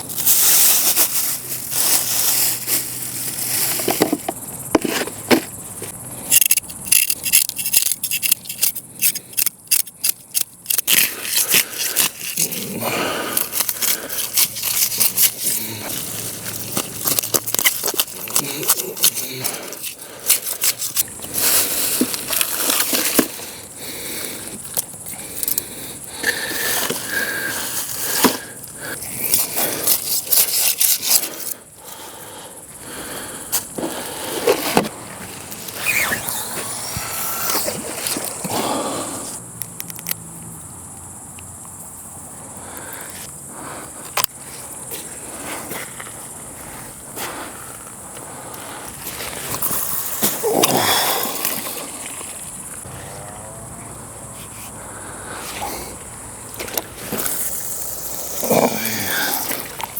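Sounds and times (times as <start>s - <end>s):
close scraping and crackling: 0.0s - 40.2s, 42.7s - 59.9s.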